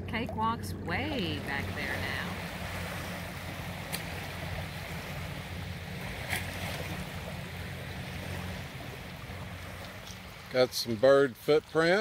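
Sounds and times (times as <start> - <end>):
outboard motor humming: 0.0 - 12.0
water rushing past hull: 0.0 - 12.0.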